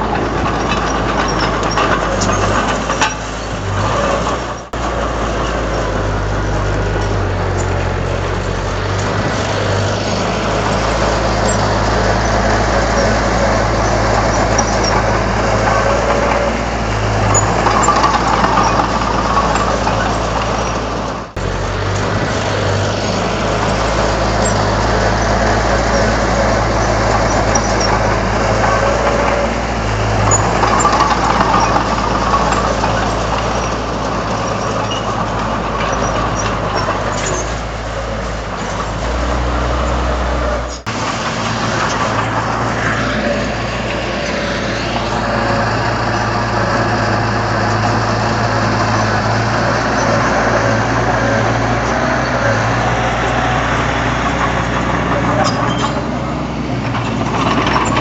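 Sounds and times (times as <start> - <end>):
bulldozer diesel engine humming: 0.0 - 58.0.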